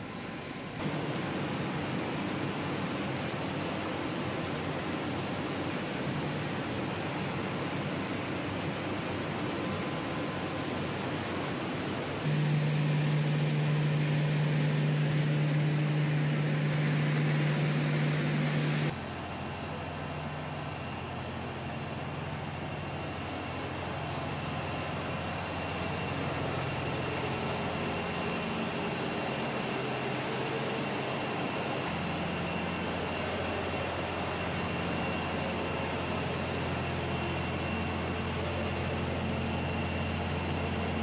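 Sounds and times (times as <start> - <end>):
high machine whines: 0.8 - 41.0
machinery humming: 0.8 - 41.0.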